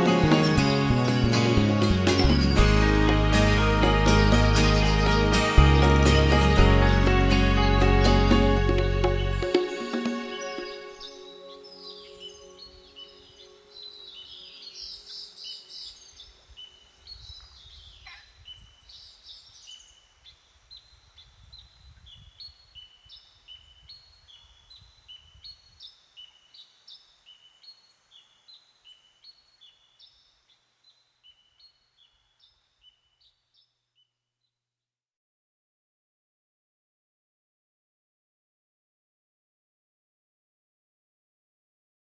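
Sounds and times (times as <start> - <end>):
birds chirping: 0.0 - 34.1.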